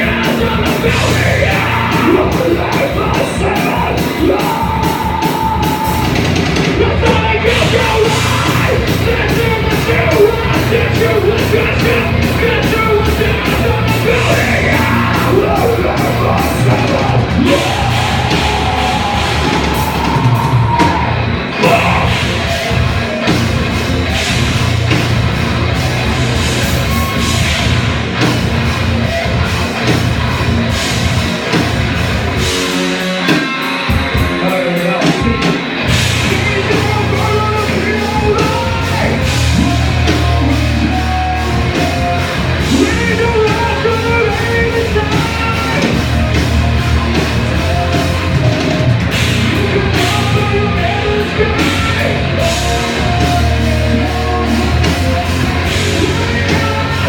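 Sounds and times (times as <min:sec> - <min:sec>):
person singing: 0:00.0 - 0:23.4, 0:32.7 - 0:57.0
bass guitar: 0:00.0 - 0:57.0
distorted guitars: 0:00.0 - 0:57.0
drums: 0:00.0 - 0:57.0
rock band playing: 0:00.0 - 0:57.0.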